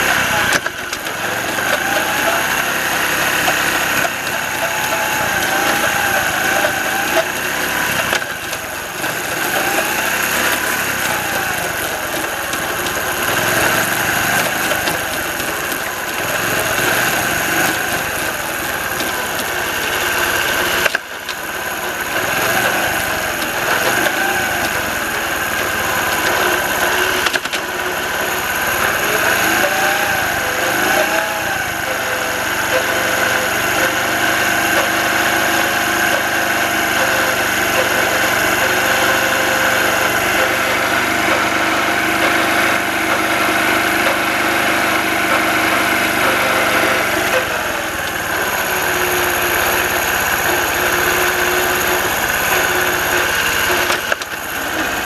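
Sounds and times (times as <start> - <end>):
motorcycle engine running: 0.0 - 55.0
transmission whining and grinding: 0.0 - 55.0.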